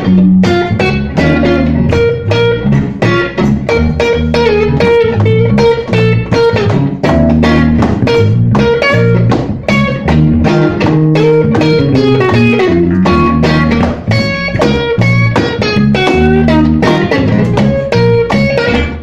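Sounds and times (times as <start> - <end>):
bass guitar: 0.0 - 19.0
electric guitar: 0.0 - 19.0
steady drum beat: 0.0 - 19.0.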